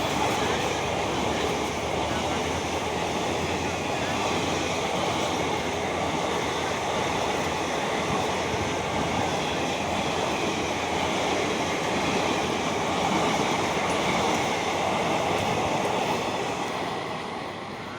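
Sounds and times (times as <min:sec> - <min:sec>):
train wheels on rails: 0:00.0 - 0:17.9.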